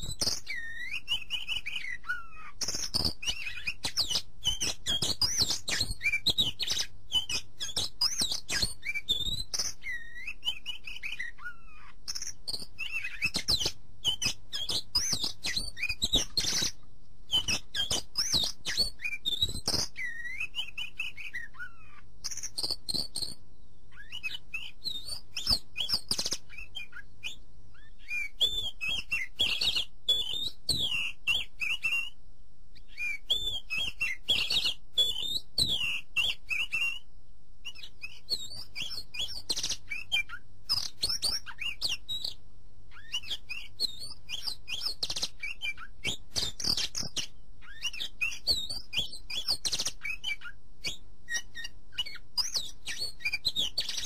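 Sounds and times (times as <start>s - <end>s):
faint low hum: 0.0s - 54.0s
songbirds chirping and whistling: 0.0s - 54.0s.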